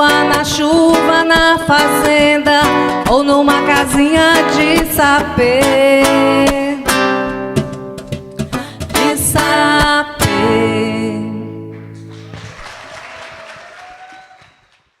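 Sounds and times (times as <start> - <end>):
acoustic guitar strumming: 0.0 - 12.3.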